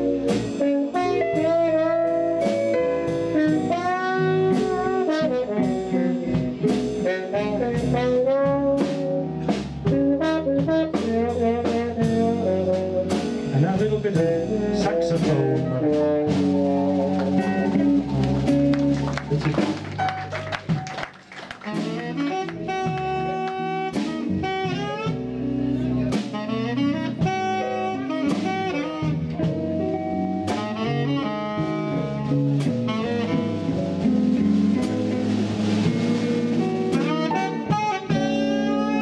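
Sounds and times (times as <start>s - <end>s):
muted trombone solo: 0.0s - 20.9s, 21.6s - 39.0s
drums: 0.0s - 39.0s
jazz-blues band: 0.0s - 39.0s.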